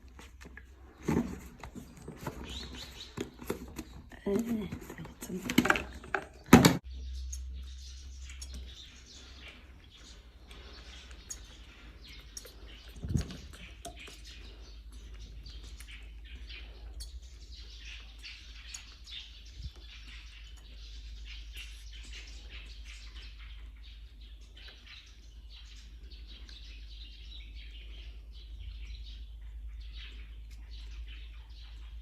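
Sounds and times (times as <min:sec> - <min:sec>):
small animals chirping and squeaking: 0:00.0 - 0:32.0.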